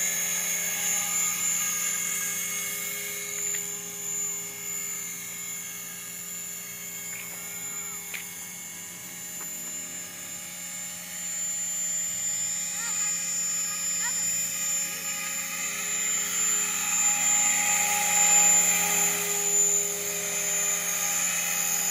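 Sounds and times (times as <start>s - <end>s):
radio-controlled helicopter whine: 0.0s - 21.9s.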